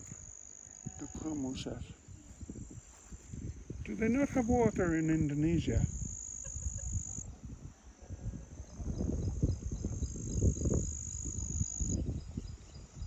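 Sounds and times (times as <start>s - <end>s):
faint insect chirps: 0.0s - 13.0s
insects droning: 0.0s - 13.0s
low rumble on microphone: 0.0s - 13.0s.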